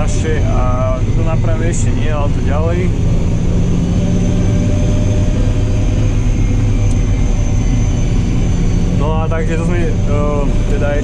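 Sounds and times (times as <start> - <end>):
faint high whine: 0.0 - 11.0
tractor diesel engine running: 0.0 - 11.0.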